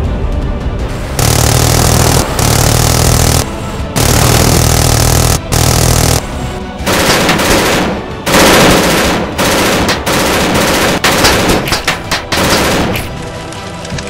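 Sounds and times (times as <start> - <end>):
machine-gun fire: 1.2 - 6.3, 6.9 - 13.1.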